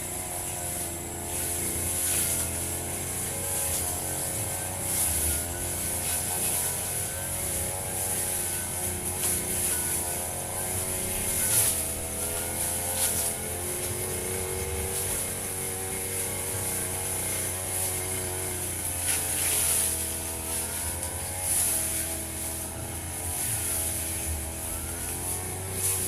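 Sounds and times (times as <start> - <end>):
brush cutter cutting grass: 0.0 - 26.0.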